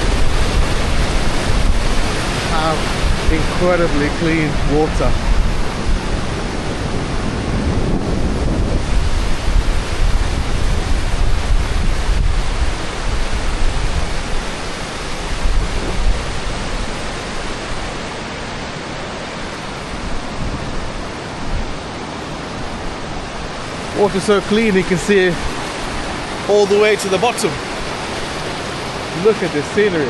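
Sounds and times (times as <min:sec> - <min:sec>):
waterfall rushing: 0:00.0 - 0:30.0
wind buffeting microphone: 0:00.0 - 0:30.0.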